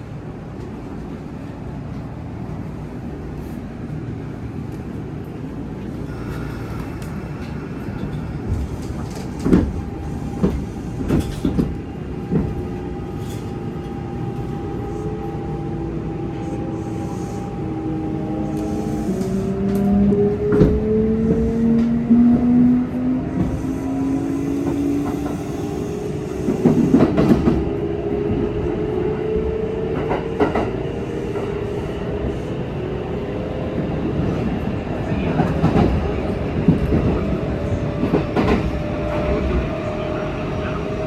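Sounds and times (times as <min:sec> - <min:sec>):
train inverter whine: 0:00.0 - 0:41.0
train rumble: 0:00.0 - 0:41.0.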